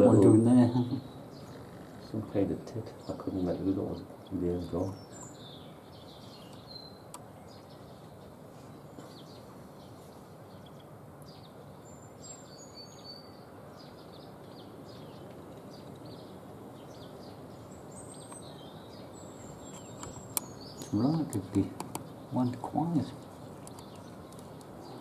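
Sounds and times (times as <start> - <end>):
small birds chirping: 0.0 - 25.0
steady background hiss: 0.0 - 25.0.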